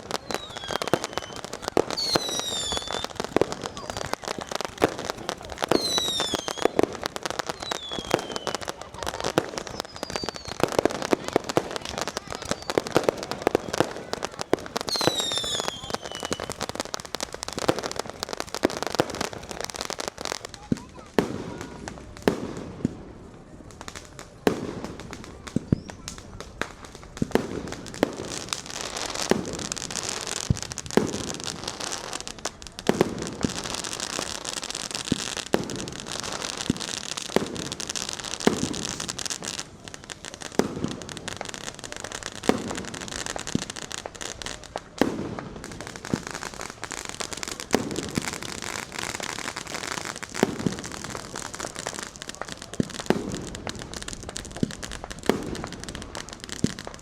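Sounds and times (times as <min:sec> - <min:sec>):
firework bangs: 0:00.0 - 0:57.0
firework crackling: 0:00.0 - 0:57.0.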